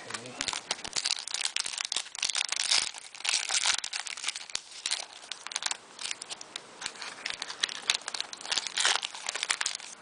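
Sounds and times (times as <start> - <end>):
card pack wrappers crinkling: 0.0 - 10.0.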